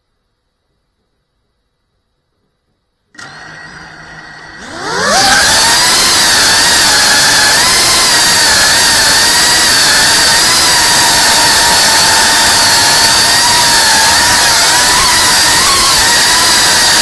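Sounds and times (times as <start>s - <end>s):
drone motors whining: 3.2s - 17.0s.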